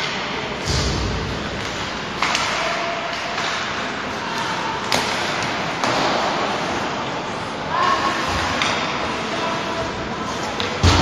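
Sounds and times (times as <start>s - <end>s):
hockey sticks and puck clacking: 0.0s - 7.0s, 7.7s - 9.4s, 10.3s - 11.0s.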